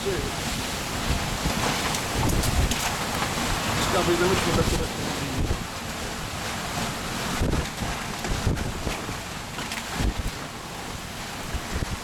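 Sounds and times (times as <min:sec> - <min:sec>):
driving rain: 0:00.0 - 0:12.0
storm wind blowing hard: 0:00.0 - 0:12.0
wind gusts buffeting microphone: 0:00.0 - 0:12.0.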